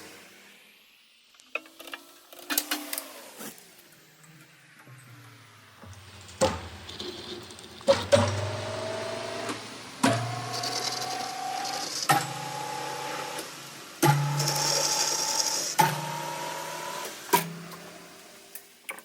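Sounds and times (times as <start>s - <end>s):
metalworking machine humming and whining: 1.6s - 18.6s.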